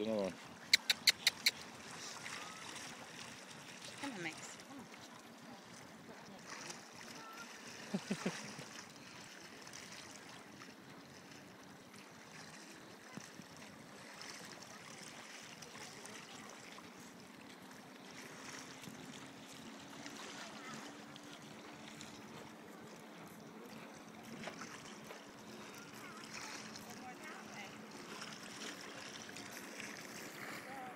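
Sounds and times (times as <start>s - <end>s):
water lapping on rocks: 0.0s - 30.9s.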